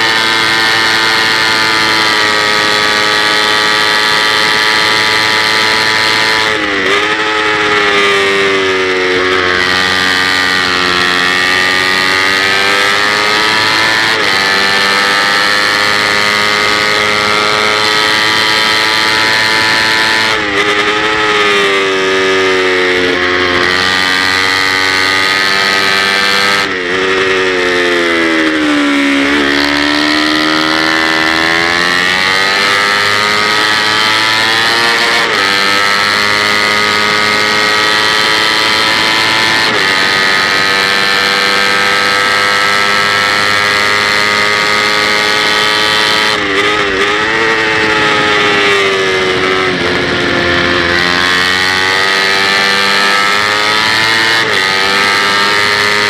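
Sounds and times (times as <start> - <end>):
motorcycle engine revving high: 0.0 - 56.0.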